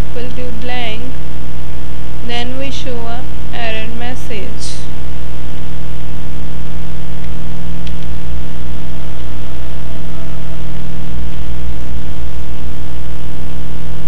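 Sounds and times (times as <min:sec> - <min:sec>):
mains hum: 0:00.0 - 0:14.0.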